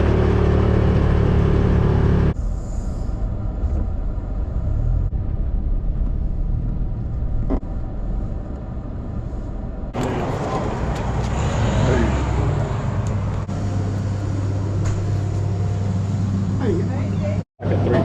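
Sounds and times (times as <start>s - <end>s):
engine drone: 0.0s - 18.0s
road rumble: 0.0s - 18.0s.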